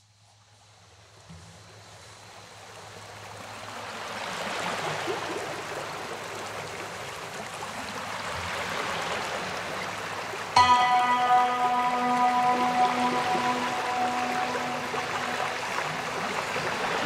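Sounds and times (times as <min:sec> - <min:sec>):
stream water flowing: 0:02.9 - 0:17.0.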